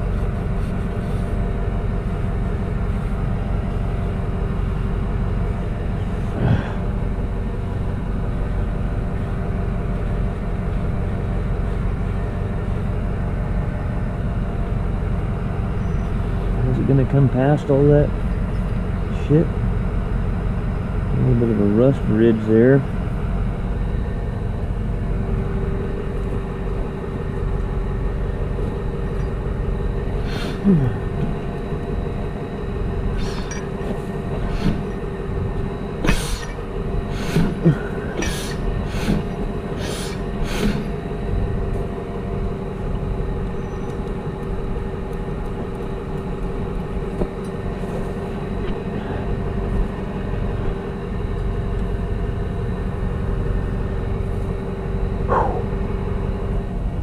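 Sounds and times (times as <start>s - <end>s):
engine-like low hum: 0.0s - 57.0s.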